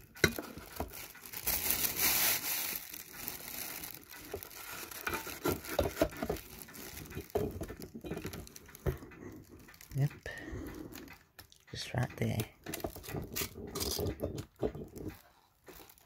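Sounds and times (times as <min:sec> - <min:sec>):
plastic bag crinkling: 0:00.0 - 0:10.3, 0:12.7 - 0:16.0.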